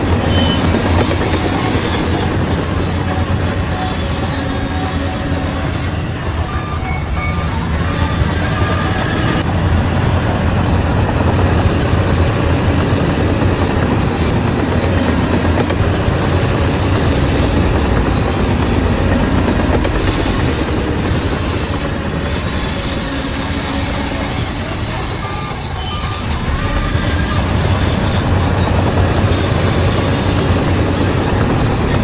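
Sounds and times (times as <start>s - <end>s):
diesel engine under load: 0.0s - 32.0s
steel tracks squealing: 0.0s - 32.0s.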